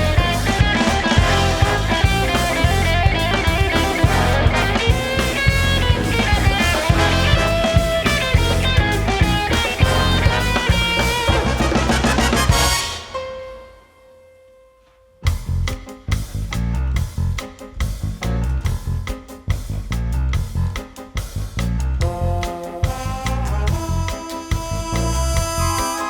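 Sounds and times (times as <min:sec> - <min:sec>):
drum kit beat: 0:00.0 - 0:13.7, 0:15.3 - 0:26.0
big band playing: 0:00.0 - 0:14.0, 0:15.2 - 0:26.0
guitar: 0:00.0 - 0:26.0.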